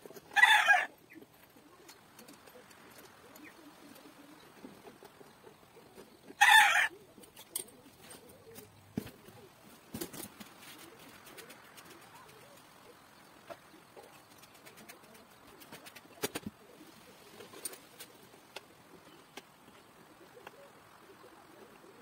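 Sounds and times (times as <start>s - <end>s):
bird cooing: 0.0s - 22.0s.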